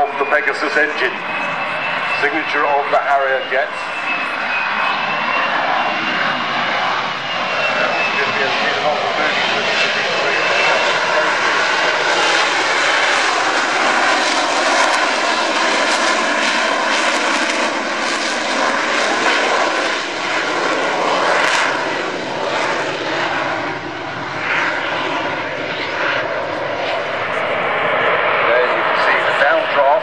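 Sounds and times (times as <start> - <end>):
jet engine whistling roar: 0.0 - 30.0.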